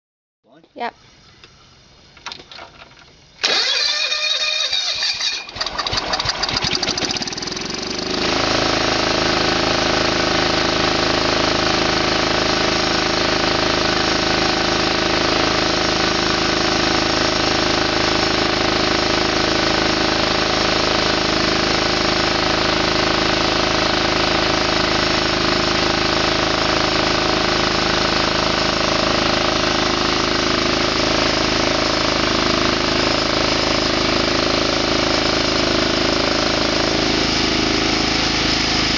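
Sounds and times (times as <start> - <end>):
lawn tractor engine starting: 2.1 - 38.9.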